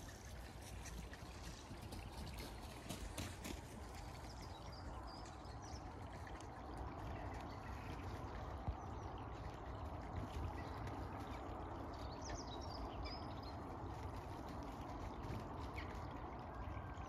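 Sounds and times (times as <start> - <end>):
rushing outdoor noise: 0.0 - 17.0.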